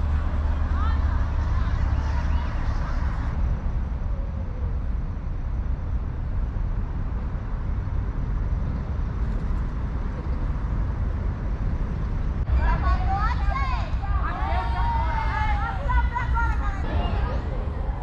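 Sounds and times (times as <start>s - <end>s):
low rumble of passing traffic: 0.0s - 18.0s.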